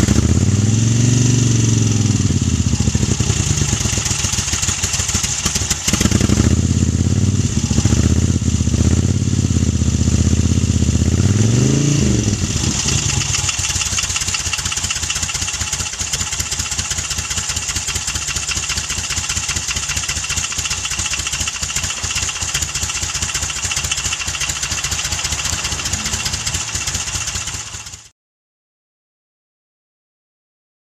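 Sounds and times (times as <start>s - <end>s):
motorcycle engine idling and revving: 0.0s - 28.1s.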